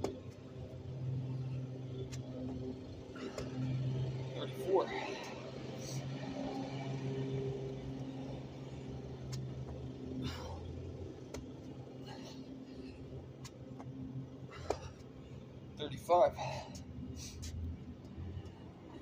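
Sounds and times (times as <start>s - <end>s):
low motor hum: 0.0s - 15.8s
man breathing heavily: 2.9s - 7.2s, 7.9s - 19.0s.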